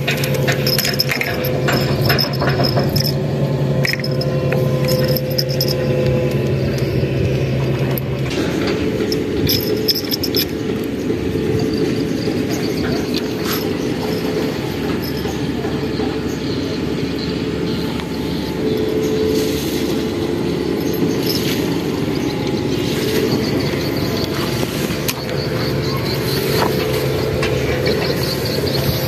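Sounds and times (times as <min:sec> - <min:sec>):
humming tone: 0:00.0 - 0:29.0
low motor drone: 0:00.0 - 0:29.0.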